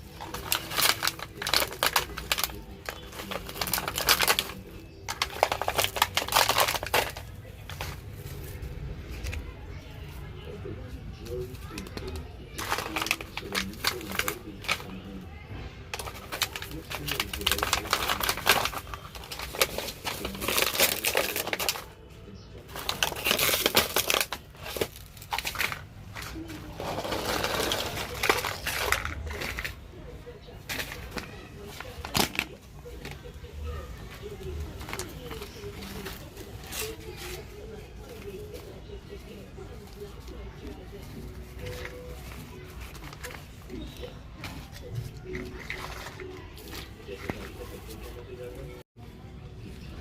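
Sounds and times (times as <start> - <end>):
toy packaging crinkling: 0.0 - 9.5, 11.2 - 15.2, 15.9 - 29.9, 30.6 - 48.8.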